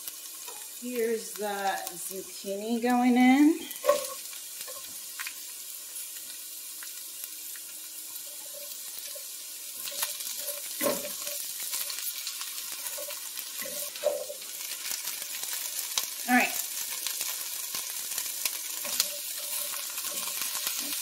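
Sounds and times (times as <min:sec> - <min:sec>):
vegetables sizzling in frying pan: 0:00.0 - 0:21.0.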